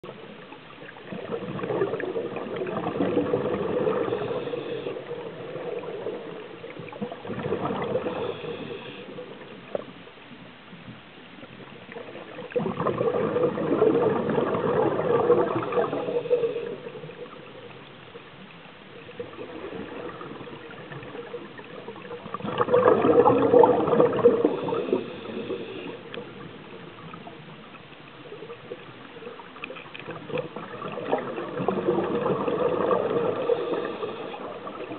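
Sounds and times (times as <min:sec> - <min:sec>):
quiet hiss: 0:00.0 - 0:34.9
underwater regulator bubbling: 0:01.0 - 0:09.9, 0:11.9 - 0:17.9, 0:19.2 - 0:27.5, 0:29.6 - 0:34.9.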